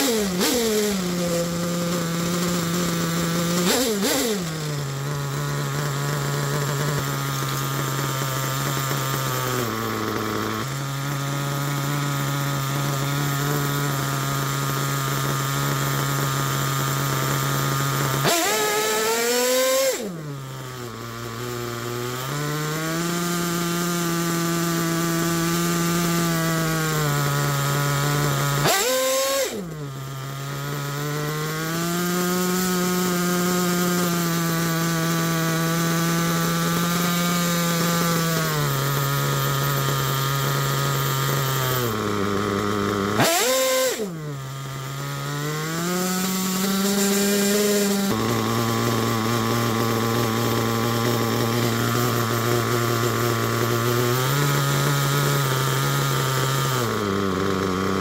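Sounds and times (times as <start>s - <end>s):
nitro engine idling and revving: 0.0s - 58.0s.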